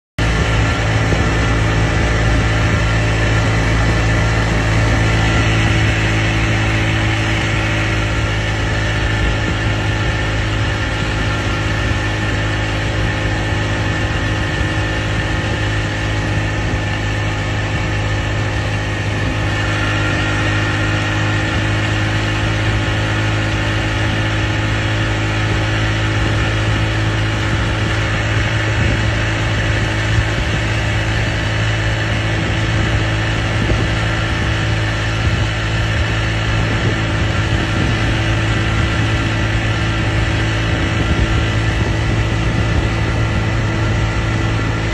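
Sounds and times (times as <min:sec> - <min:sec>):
speedboat motor running: 0:00.2 - 0:44.9.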